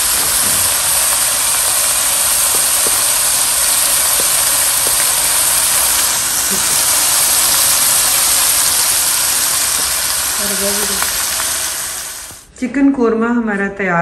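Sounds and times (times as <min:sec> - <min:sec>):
curry sizzling in a pan: 0:00.0 - 0:12.5.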